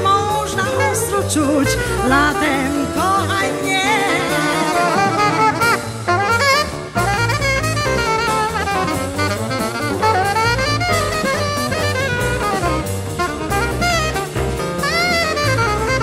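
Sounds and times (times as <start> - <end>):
drum kit beat: 0.0 - 16.0
jazz saxophone solo: 0.0 - 16.0
low accompaniment: 0.0 - 16.0.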